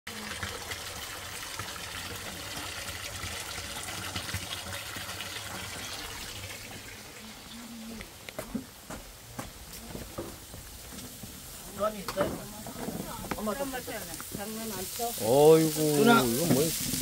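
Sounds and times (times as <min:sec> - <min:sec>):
running water rushing: 0:00.1 - 0:17.0.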